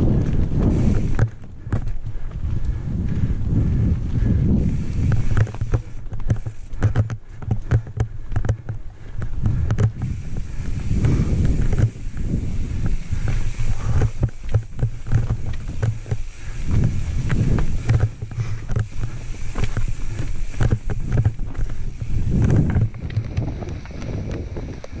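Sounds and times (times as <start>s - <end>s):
bike rattling clicks: 0.0s - 25.0s
tyres rumbling over roots: 0.0s - 25.0s
wind buffeting microphone: 0.0s - 25.0s.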